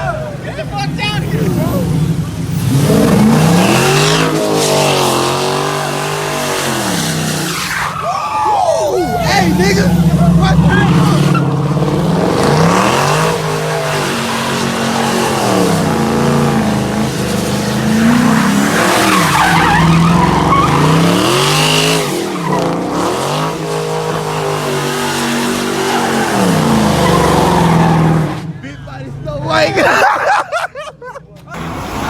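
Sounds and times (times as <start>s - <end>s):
tires squealing: 0.0s - 28.7s, 31.5s - 32.0s
car engine revving: 0.8s - 8.1s, 9.0s - 28.6s, 31.6s - 32.0s.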